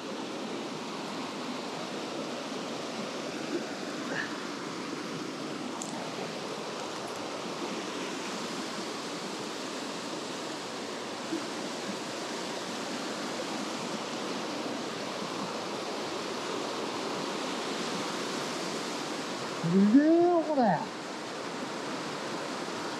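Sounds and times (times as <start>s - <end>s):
stream water rushing over rocks: 0.0s - 22.9s.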